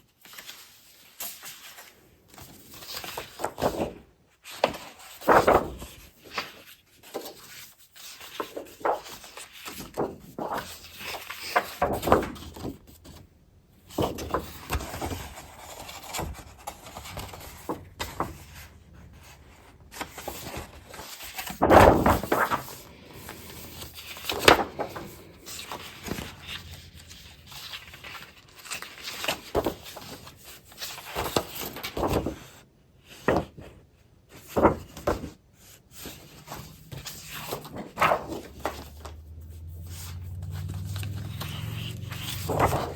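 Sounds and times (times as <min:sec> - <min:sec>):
paper rustling and crinkling: 0:00.0 - 0:42.9.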